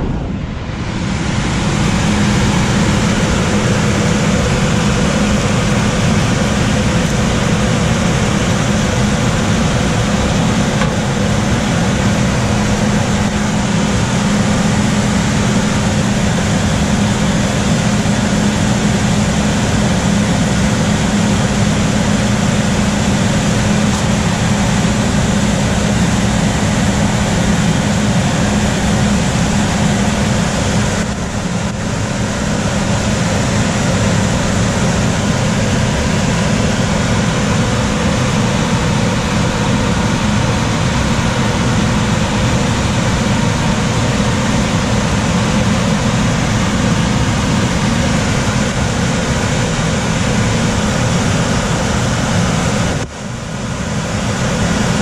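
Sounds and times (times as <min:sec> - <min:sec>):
furnace blower air rush: 0:00.0 - 0:55.0
steady hum: 0:00.0 - 0:55.0.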